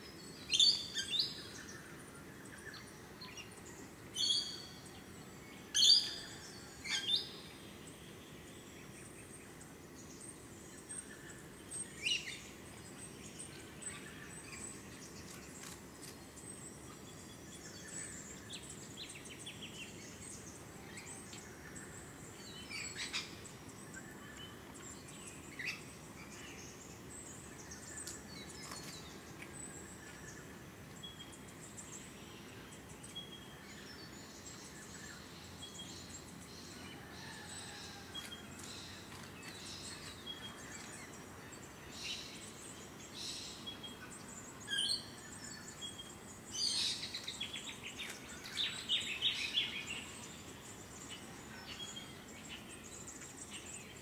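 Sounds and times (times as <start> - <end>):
birds chirping: 0.0 - 54.0
low background hiss: 0.0 - 54.0.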